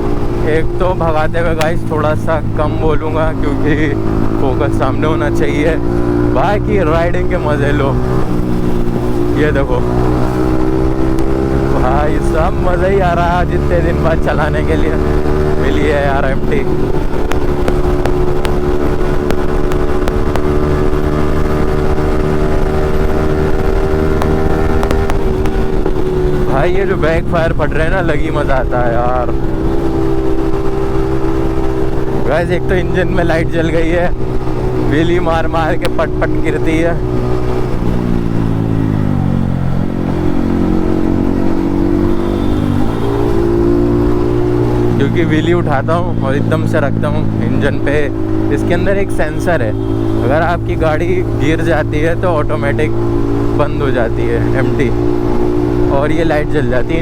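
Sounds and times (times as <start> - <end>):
sharp exhaust pops: 0.0 - 6.4, 7.2 - 54.2
motorcycle engine running: 0.0 - 57.0.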